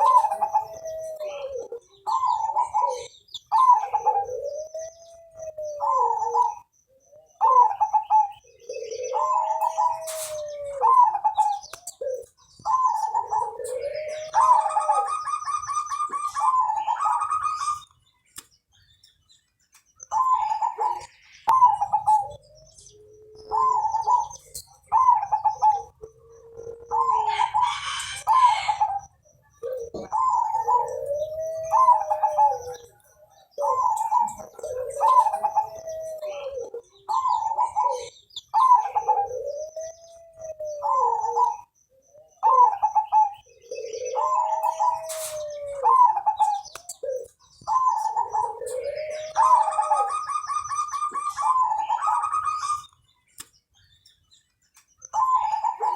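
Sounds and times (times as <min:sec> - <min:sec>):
dove cooing: 0:00.0 - 0:18.0, 0:20.0 - 0:53.0, 0:54.0 - 0:55.9.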